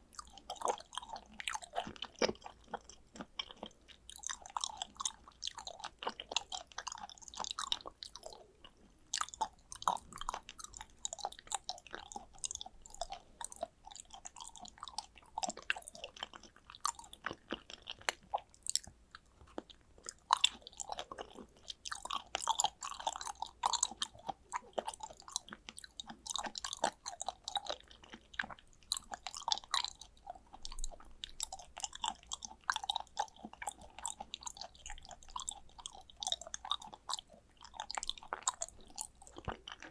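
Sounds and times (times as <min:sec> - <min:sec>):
close chewing with wet smacking: 0:00.0 - 0:39.9
mouth and teeth clicks: 0:00.1 - 0:39.9.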